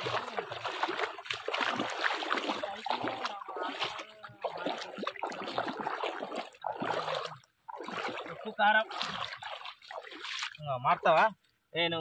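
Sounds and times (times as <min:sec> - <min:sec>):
bare feet splashing through water: 0:00.0 - 0:11.6.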